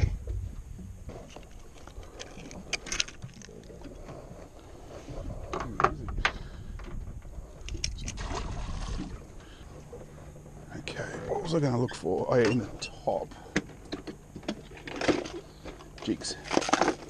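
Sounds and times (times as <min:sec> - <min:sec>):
wind and water against hull: 0:00.0 - 0:17.0.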